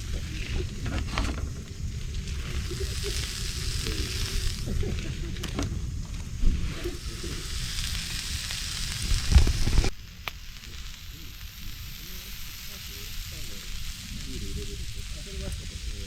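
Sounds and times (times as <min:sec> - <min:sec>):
meat sizzling on griddle: 0:00.0 - 0:16.0.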